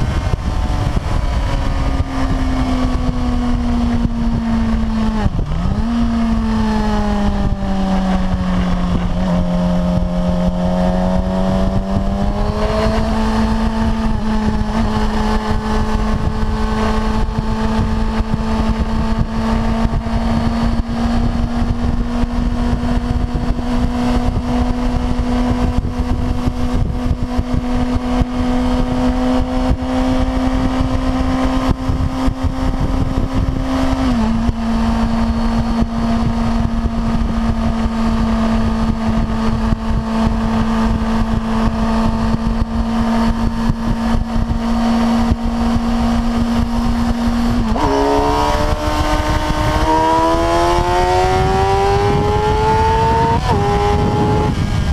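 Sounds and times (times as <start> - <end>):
motorcycle engine revving: 0.0 - 54.9
wind and road noise: 0.0 - 54.9.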